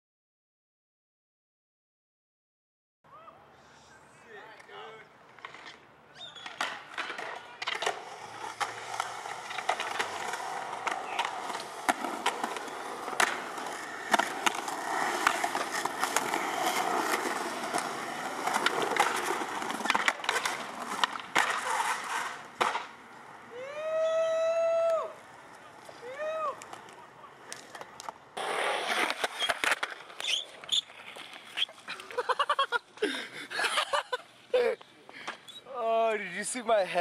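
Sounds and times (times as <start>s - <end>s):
skateboards rolling on concrete: 3.9s - 37.0s
skateboards clacking: 4.6s - 23.6s, 24.6s - 36.1s.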